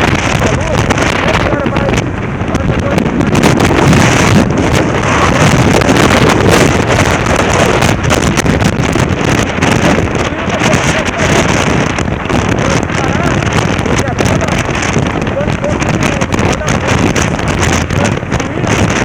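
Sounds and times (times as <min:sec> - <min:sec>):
motorcycle engine: 0:00.0 - 0:19.0
road noise: 0:00.0 - 0:19.0
wind buffeting microphone: 0:00.0 - 0:19.0.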